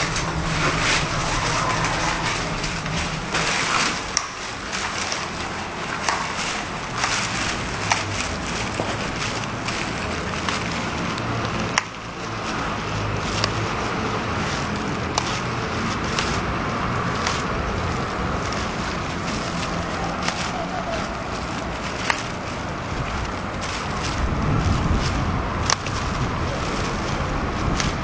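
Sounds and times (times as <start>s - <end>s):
steady outdoor rushing noise: 0.0s - 28.0s.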